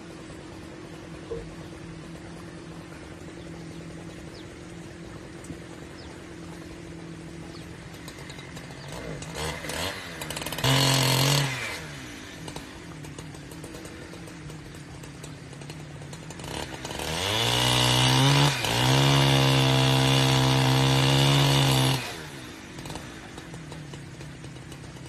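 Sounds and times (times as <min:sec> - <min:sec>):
chainsaw idling and revving: 0:03.3 - 0:25.0.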